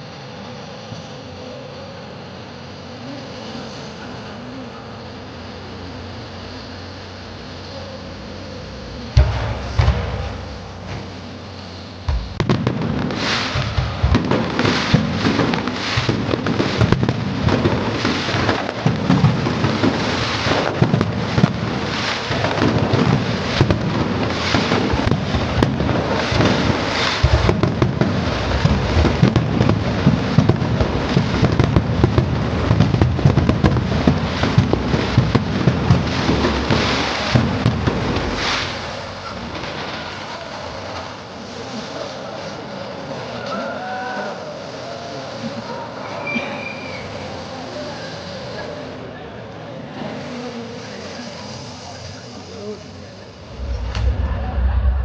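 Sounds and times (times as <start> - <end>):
fireworks bangs and crackling: 2.4 - 55.0.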